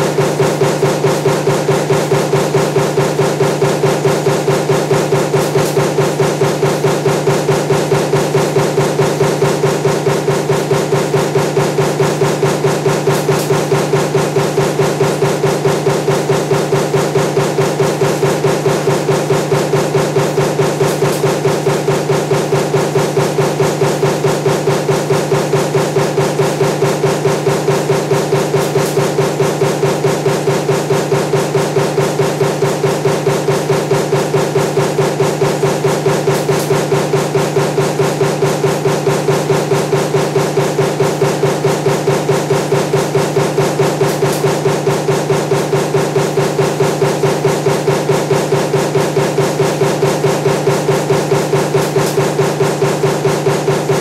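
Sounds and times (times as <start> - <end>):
constant mechanical hum: 0.0 - 54.0
stamping press punching: 0.0 - 54.0.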